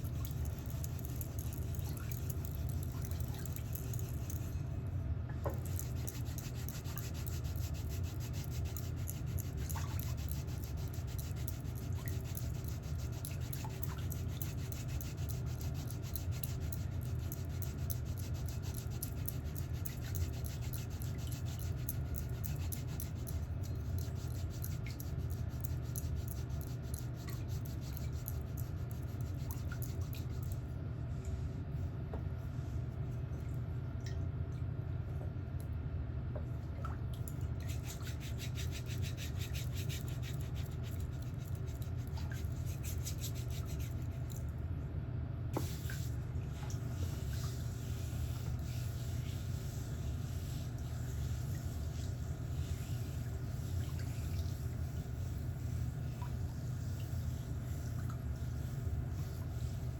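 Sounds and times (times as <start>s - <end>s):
constant low hum: 0.0s - 59.9s.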